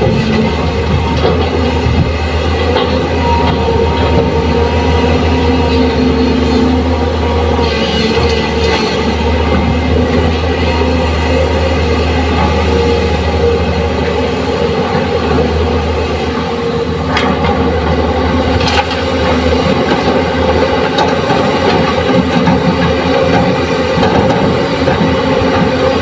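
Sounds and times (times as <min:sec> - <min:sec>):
excavator diesel engines droning: 0:00.0 - 0:26.0.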